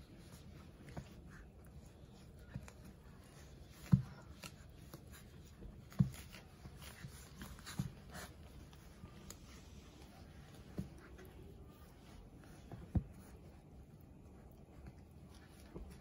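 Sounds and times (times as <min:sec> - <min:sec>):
paws scratching and rustling: 0:00.0 - 0:16.0.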